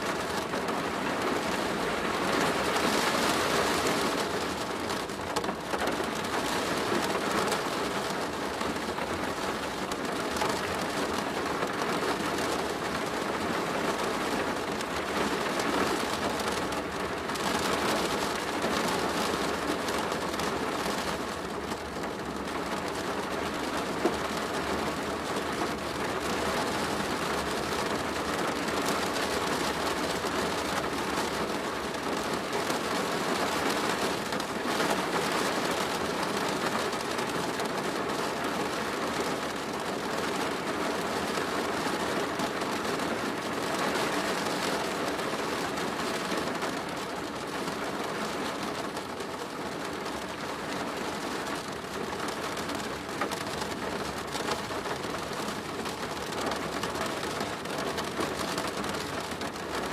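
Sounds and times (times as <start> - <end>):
rain on a plastic roof: 0.0 - 59.9.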